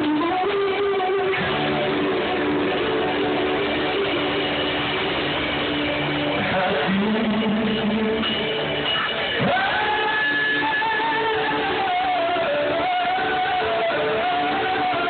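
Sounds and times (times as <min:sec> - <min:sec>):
live band with electric guitar: 0:00.0 - 0:15.0.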